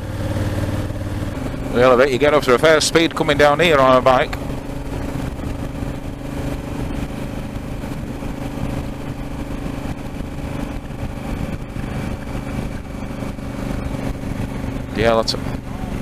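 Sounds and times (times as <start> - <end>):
motorcycle engine running: 0.0 - 16.0
road noise: 0.0 - 16.0
wind rushing: 0.6 - 15.0.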